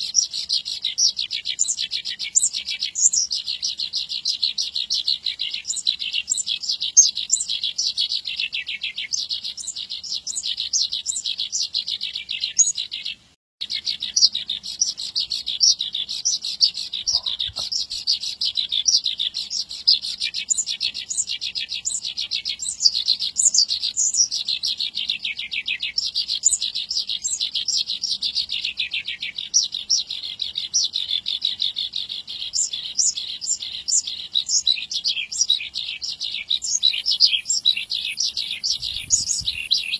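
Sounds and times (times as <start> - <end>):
lark singing trilled notes: 0.0 - 39.9.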